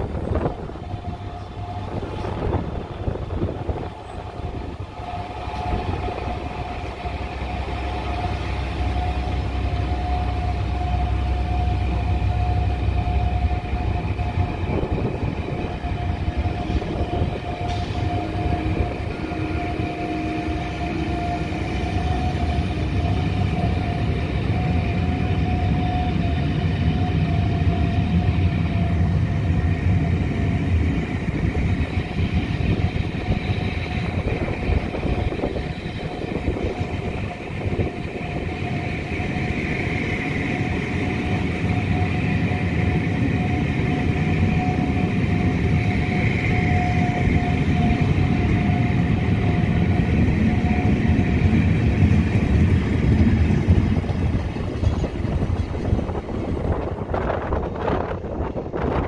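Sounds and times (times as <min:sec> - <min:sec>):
steady wheel whine: 0:00.0 - 0:59.0
train wheels rumbling on rails: 0:00.0 - 0:59.0.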